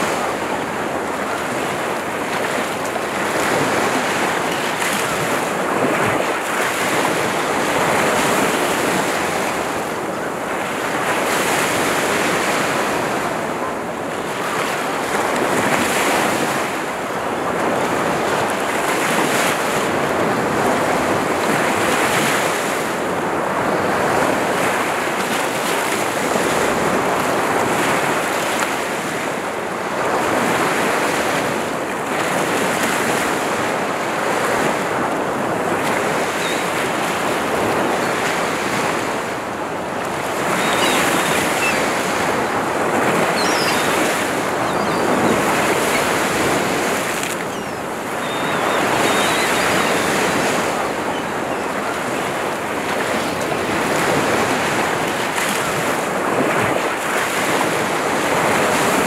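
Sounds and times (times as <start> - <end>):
waves washing over rocks: 0.0 - 59.0.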